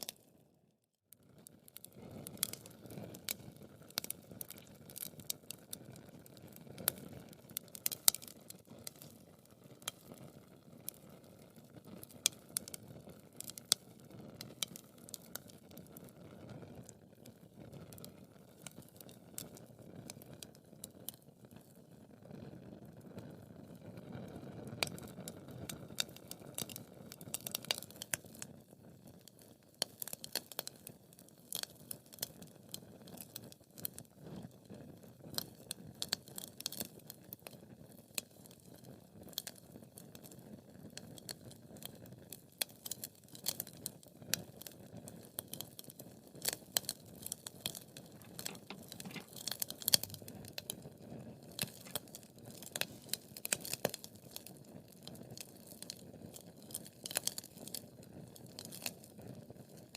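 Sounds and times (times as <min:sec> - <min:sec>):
low rustle of flames: 0:01.1 - 0:59.9
wood fire crackling and popping: 0:01.4 - 0:22.0, 0:23.7 - 0:59.9.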